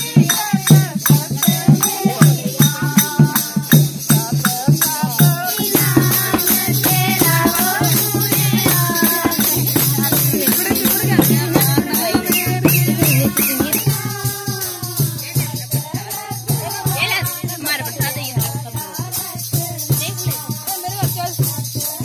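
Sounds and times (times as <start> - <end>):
women singing: 0.0 - 22.0.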